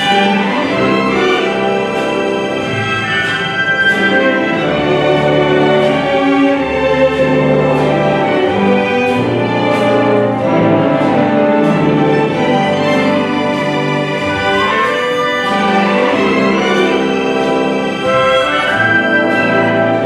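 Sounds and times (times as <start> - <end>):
orchestra playing held chords: 0.0 - 20.0.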